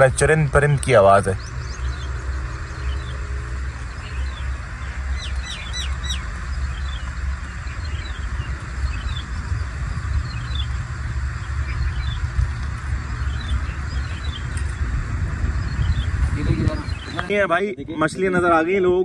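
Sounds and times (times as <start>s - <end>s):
birds chirping: 0.0s - 18.9s
steady low rumble: 0.0s - 19.0s.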